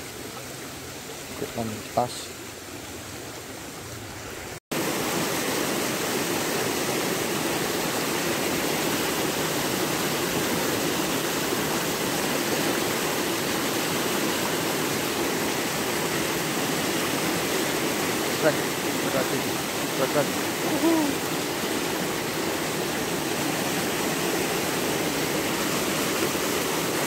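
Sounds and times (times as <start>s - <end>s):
stream rushing over riffles: 0.0s - 27.0s.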